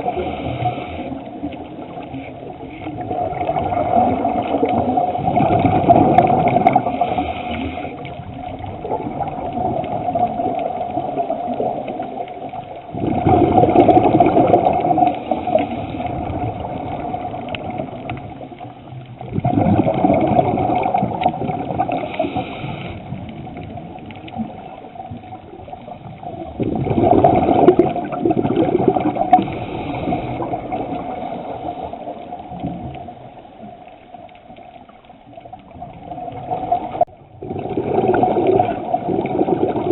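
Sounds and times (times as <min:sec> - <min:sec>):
exhaled bubbles rushing: 0:00.0 - 0:39.9.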